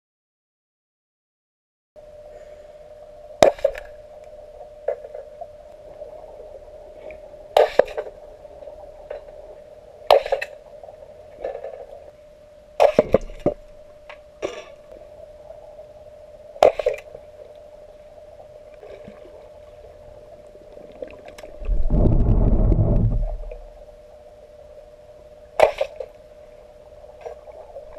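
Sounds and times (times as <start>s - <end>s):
underwater hum: 2.0s - 27.9s.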